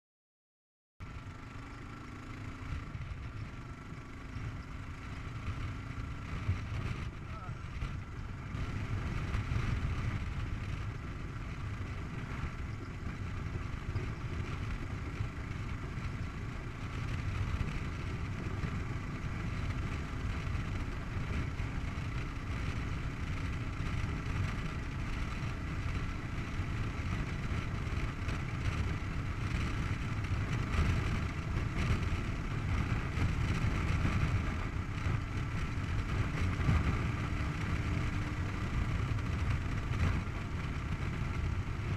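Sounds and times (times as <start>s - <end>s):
motorcycle engine cruising: 1.0s - 41.9s.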